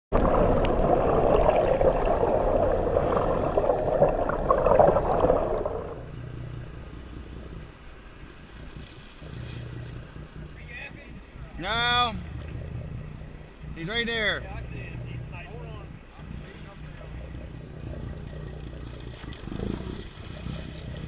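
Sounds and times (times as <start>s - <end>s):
boat engine hum: 0.1s - 21.0s
water rushing past hull: 0.1s - 21.0s.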